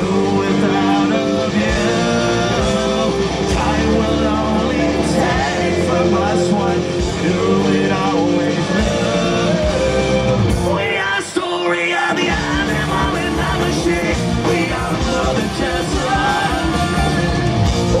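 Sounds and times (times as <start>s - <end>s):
bass and drums: 0.0s - 11.3s, 12.1s - 18.0s
distorted electric guitars: 0.0s - 18.0s
lead vocal singing: 0.0s - 18.0s
punk rock band playing live: 0.0s - 18.0s.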